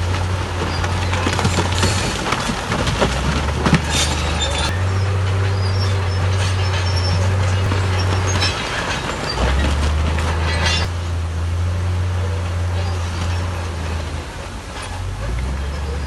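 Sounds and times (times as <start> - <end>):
bulldozer diesel engine running: 0.0 - 16.0
steel tracks clanking and squealing: 0.0 - 16.0.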